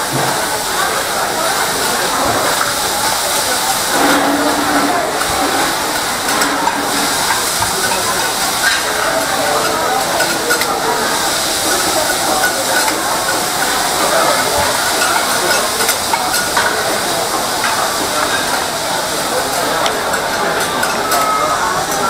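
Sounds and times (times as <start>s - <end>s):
food sizzling on a griddle: 0.0s - 22.0s.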